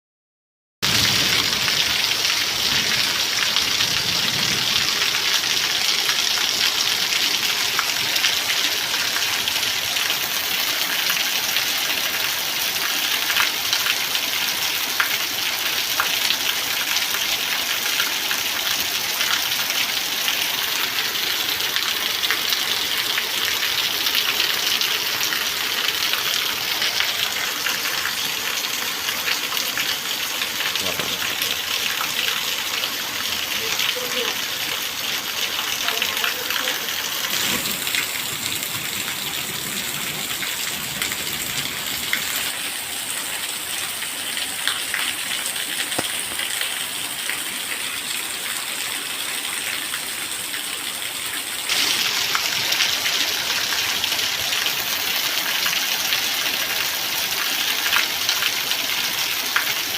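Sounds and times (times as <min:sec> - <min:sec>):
rain falling steadily: 0:00.8 - 0:59.9.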